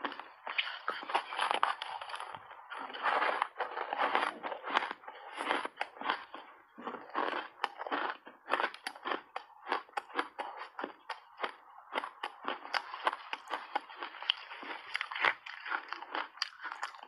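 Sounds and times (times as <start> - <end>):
ice being bitten and chewed: 0.0 - 17.0.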